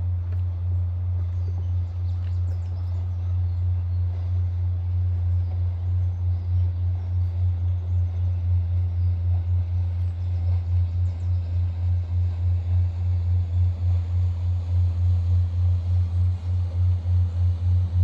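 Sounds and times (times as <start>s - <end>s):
throbbing low engine drone: 0.0s - 18.0s.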